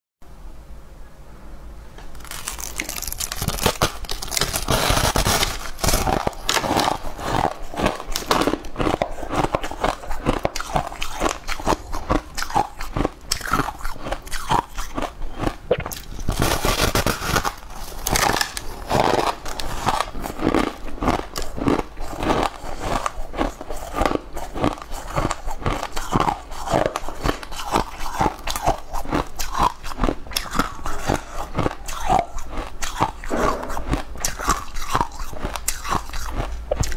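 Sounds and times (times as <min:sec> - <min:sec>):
ice crunching between teeth: 0:02.1 - 0:36.9.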